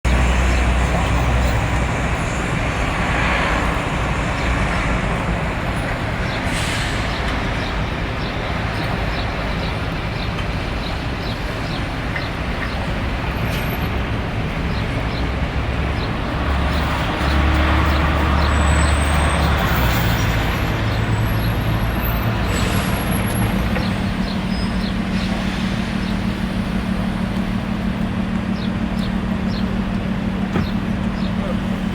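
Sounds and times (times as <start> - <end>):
passing vehicles: 0.1 - 31.9.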